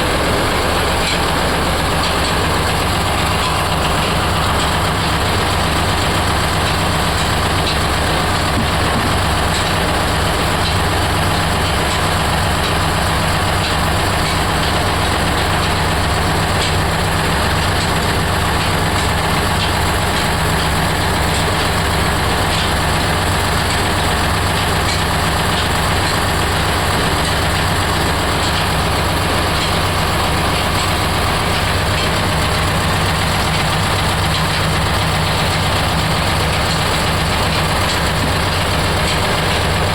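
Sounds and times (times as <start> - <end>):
oil expeller machine drone: 0.0 - 39.9.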